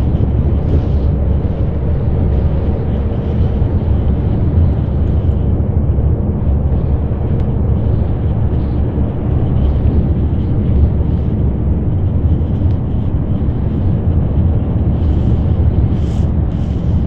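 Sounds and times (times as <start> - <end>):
bus engine and tyre rumble: 0.0 - 17.0.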